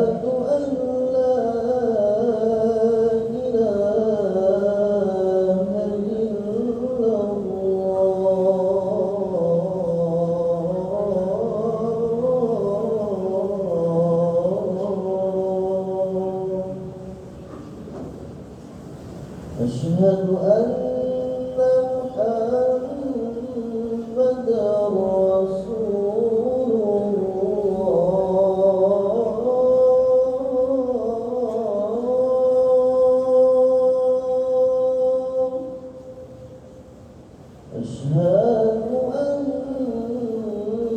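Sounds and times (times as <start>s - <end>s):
man singing call to prayer: 0.0s - 17.3s, 19.5s - 36.5s, 37.6s - 40.9s.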